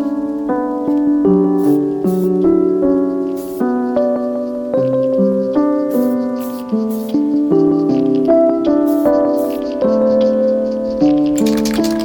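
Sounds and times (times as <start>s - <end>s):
sustained keyboard chords: 0.0s - 12.0s.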